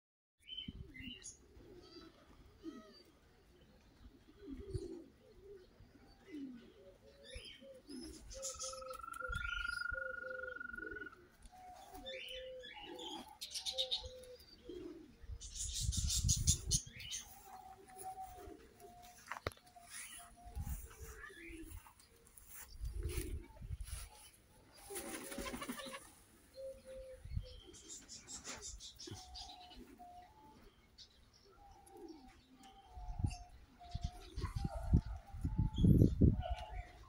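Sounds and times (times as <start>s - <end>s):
pigeons cooing: 0.6s - 37.0s.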